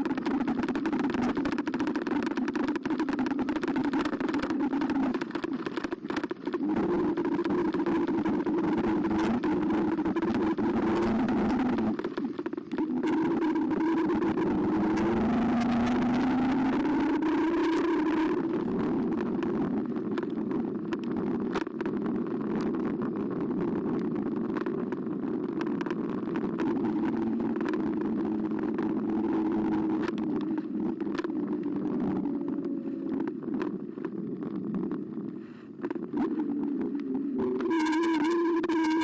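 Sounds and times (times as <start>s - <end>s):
clicks and knocks from bumps: 0.0s - 39.0s
electric bike motor hum: 0.0s - 39.0s
rolling tyre noise: 0.0s - 39.0s.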